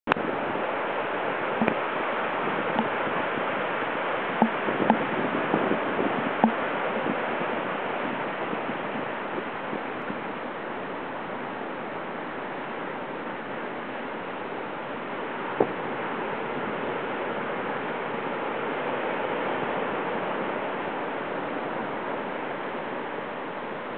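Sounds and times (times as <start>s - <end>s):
surf breaking on beach: 0.1s - 23.9s.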